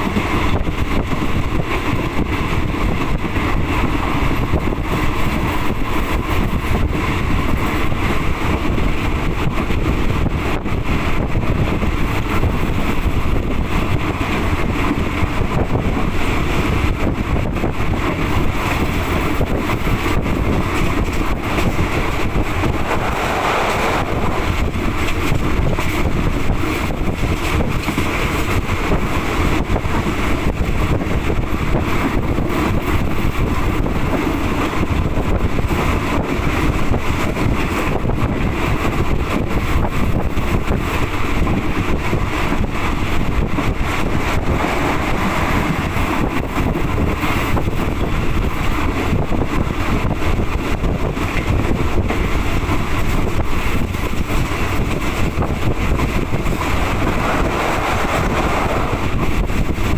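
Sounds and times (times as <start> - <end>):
train running on rails: 0.0 - 59.9
wind buffeting microphone: 0.0 - 59.9.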